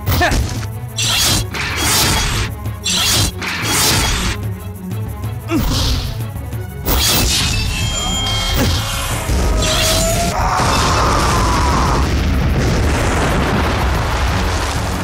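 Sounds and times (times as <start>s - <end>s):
cartoon action music: 0.0s - 12.4s.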